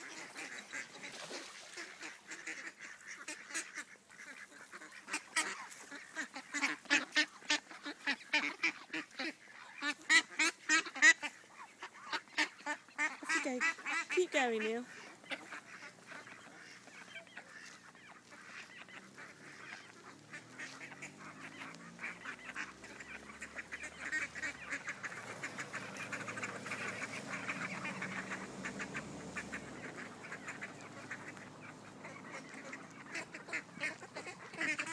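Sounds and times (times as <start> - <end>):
young ducks calling: 0.0 - 34.9.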